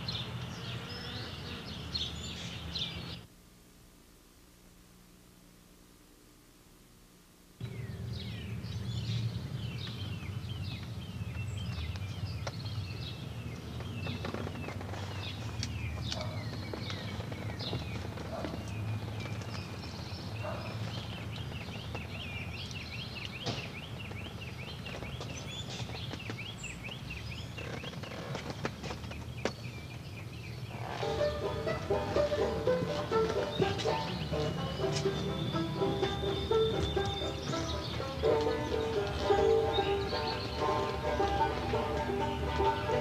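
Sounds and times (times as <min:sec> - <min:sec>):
birds chirping and singing: 0:00.0 - 0:03.3, 0:07.6 - 0:43.0.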